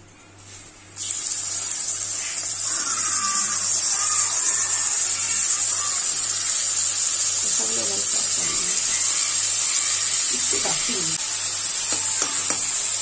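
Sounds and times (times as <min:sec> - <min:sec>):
prawns sizzling in hot oil: 0:01.0 - 0:13.0.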